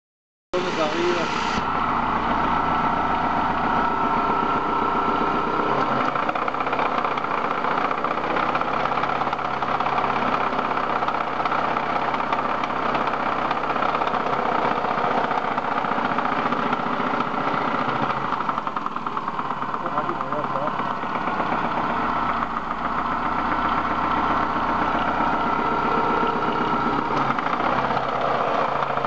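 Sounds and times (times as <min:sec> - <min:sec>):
engine idling with knocking: 0:00.6 - 0:29.0
low engine hum: 0:00.6 - 0:29.0.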